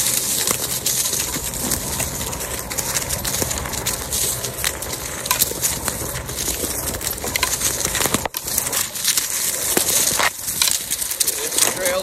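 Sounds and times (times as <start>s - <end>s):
tyre crunching over dry leaves: 0.0s - 12.0s
wind rumbling on microphone: 0.0s - 12.0s.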